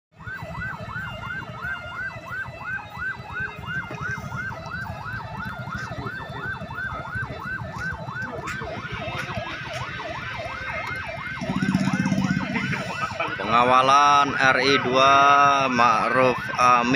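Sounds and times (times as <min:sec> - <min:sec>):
siren fast yelp: 0:00.2 - 0:16.9.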